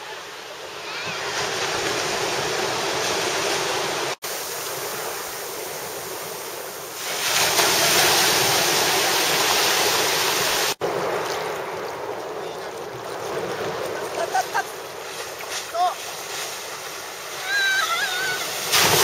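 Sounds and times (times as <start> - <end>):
small waves breaking: 0.0 - 19.0.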